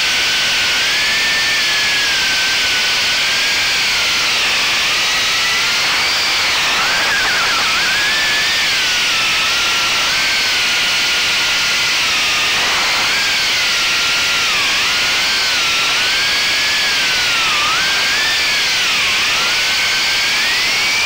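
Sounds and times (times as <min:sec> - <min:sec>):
drone motors whining: 0:00.4 - 0:21.0.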